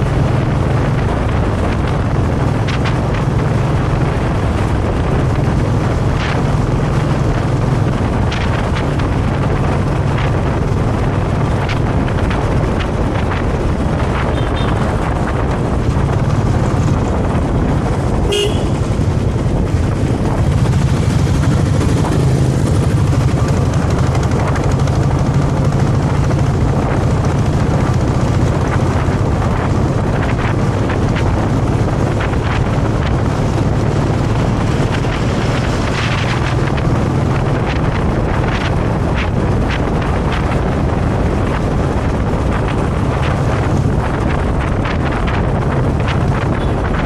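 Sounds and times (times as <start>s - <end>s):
motorcycle engine running: 0.0s - 47.0s
wind buffeting microphone: 0.0s - 47.0s.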